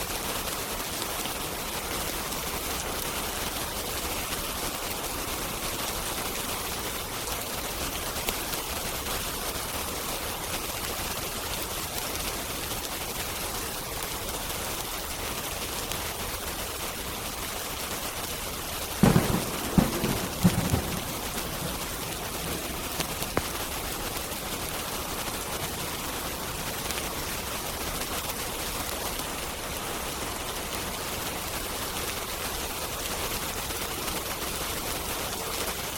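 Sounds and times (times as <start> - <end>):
rain hiss: 0.0 - 35.9
wood fire crackling pops: 0.1 - 35.9.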